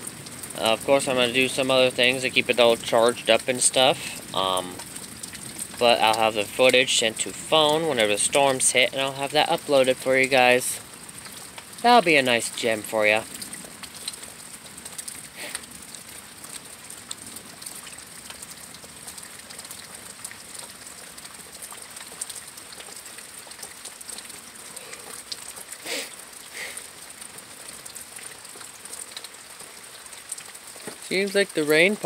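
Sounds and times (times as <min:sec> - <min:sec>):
light rain patter and drips: 0:00.0 - 0:32.0.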